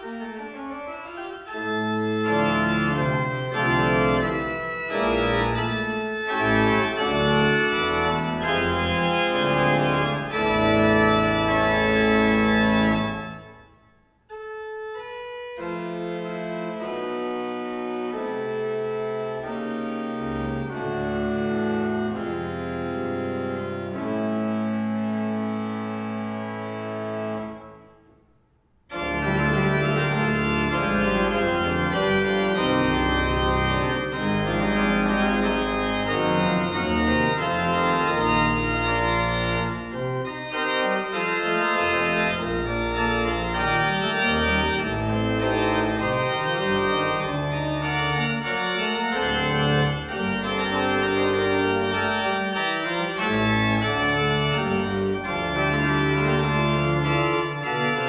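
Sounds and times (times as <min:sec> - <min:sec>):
pipe organ chords: 0:00.0 - 0:28.2, 0:28.9 - 0:58.0.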